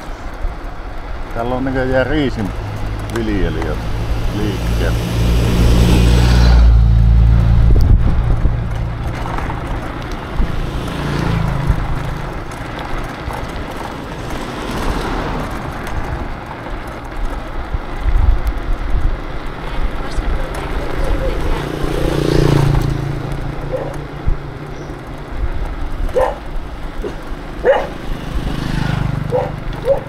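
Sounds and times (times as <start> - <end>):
road and wind noise: 0.0 - 30.0
vehicle engine running: 0.0 - 30.0.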